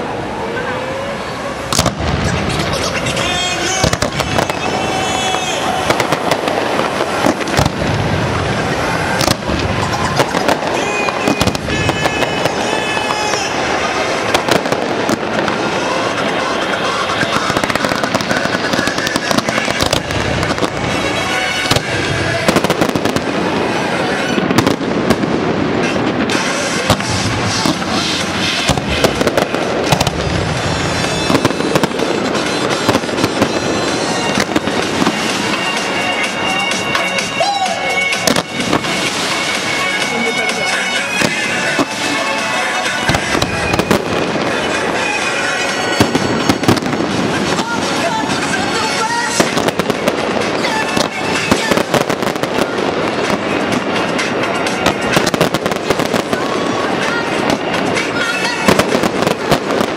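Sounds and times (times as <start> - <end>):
fireworks bangs and crackles: 0.0 - 59.9
loud pop music: 1.7 - 24.8, 25.7 - 59.9.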